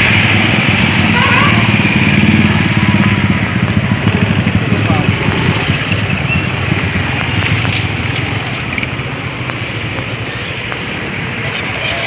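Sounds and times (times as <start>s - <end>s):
vehicle engine rumble: 0.0s - 12.0s
wind and tyre noise: 0.0s - 12.0s.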